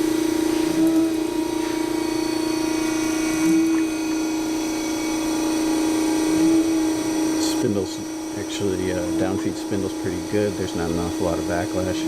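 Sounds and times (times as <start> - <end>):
grinder motor hum: 0.0 - 12.0
spindle whine: 0.0 - 12.0.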